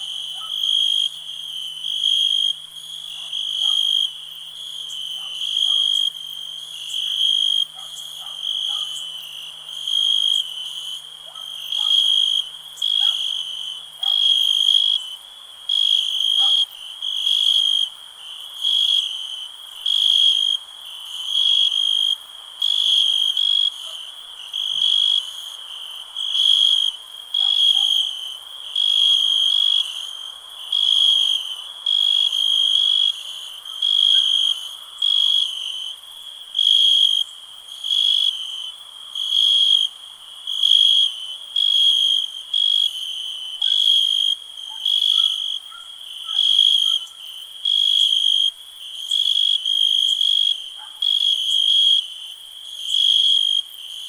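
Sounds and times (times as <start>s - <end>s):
cricket chirping trill: 0.0s - 54.0s.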